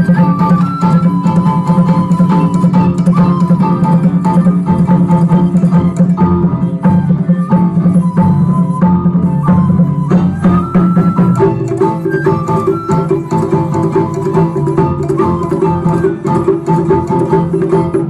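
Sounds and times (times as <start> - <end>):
live band music: 0.0 - 18.0
percussion beat: 0.0 - 18.0
plucked melody notes: 0.0 - 18.0.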